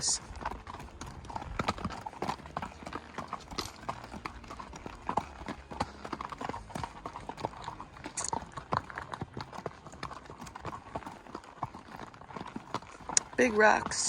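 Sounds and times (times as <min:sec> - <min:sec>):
hooves clopping on stone: 0:00.0 - 0:14.0.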